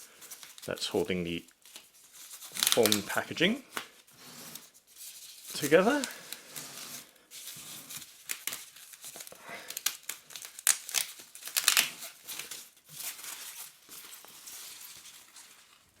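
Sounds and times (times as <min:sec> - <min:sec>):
foam packaging rustling: 0:00.0 - 0:16.0.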